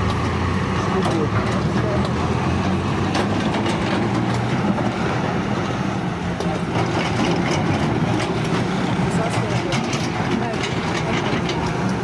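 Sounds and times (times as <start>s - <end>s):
heavy engine humming: 0.0s - 12.0s
scattered clicks and knocks: 1.0s - 5.2s, 6.4s - 12.0s.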